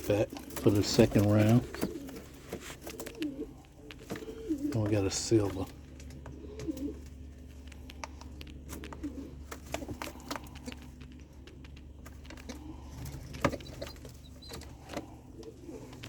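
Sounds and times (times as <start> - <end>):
steady low hum: 0.0 - 16.0
small clicks: 2.8 - 16.0.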